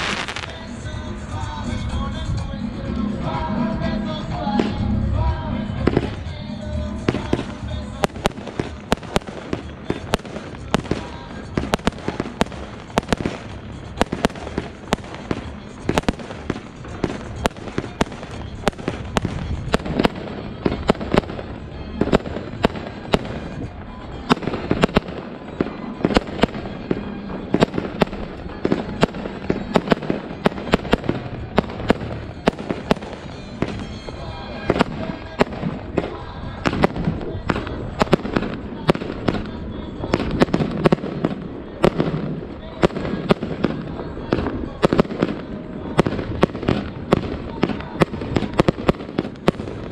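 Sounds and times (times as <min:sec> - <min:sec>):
fireworks bangs: 0:00.0 - 0:49.9.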